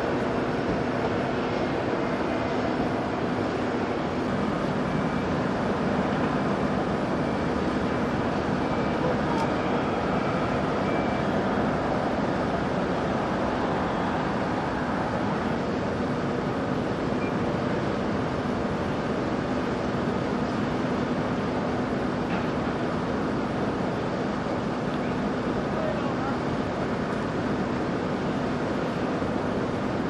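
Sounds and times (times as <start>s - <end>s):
mechanical drone with hum: 0.0s - 30.0s.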